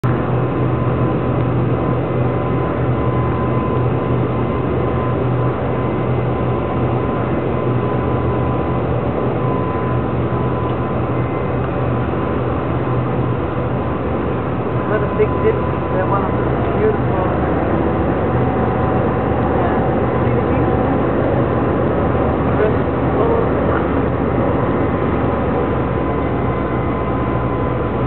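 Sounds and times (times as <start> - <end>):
boat engine drone: 0.0 - 28.0
faint steady whine: 0.1 - 28.0.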